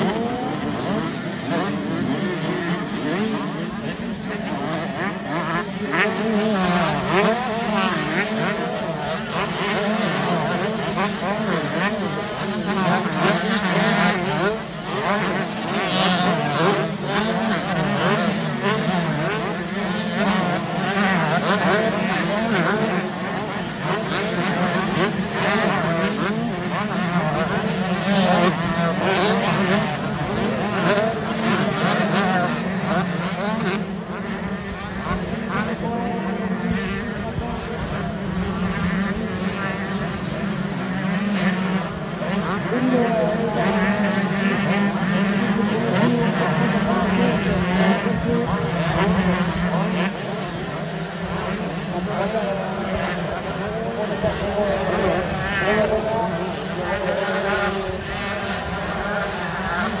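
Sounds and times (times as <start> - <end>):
motocross bikes revving: 0.0 - 60.0.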